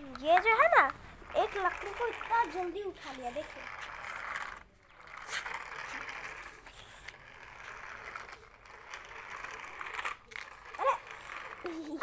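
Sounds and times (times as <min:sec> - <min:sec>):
toy electric gear motor whirring: 0:00.0 - 0:12.0.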